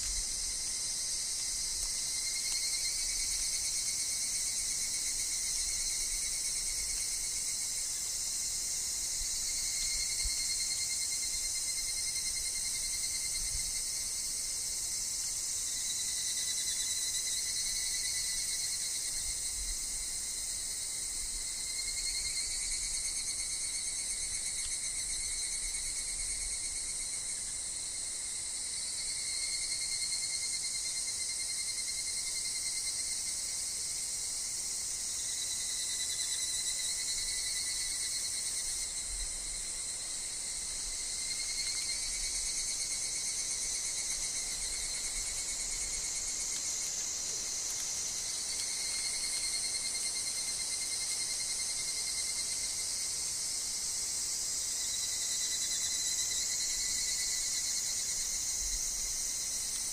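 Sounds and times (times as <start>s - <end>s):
cicadas trilling: 0.0s - 59.9s
high insect drone: 0.0s - 59.9s.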